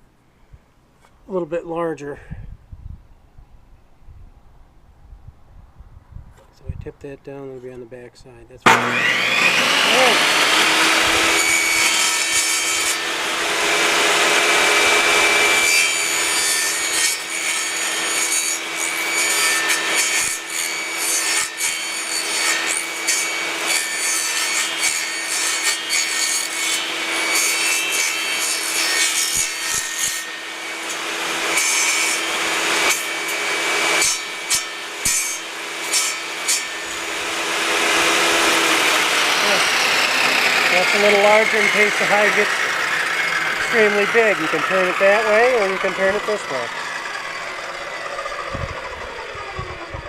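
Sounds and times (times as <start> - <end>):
power saw cutting wood: 8.6 - 50.0.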